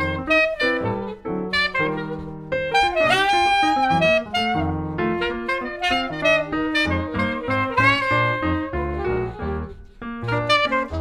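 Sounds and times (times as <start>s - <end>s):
jazz saxophone melody: 0.0s - 11.0s.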